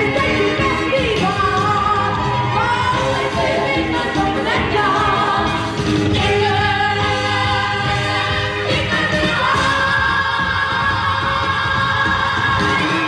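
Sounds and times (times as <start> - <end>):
music with sung vocals: 0.0 - 13.0.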